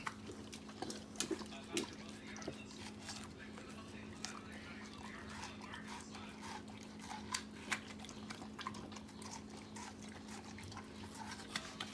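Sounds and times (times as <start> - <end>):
dog chewing watermelon: 0.0 - 11.9.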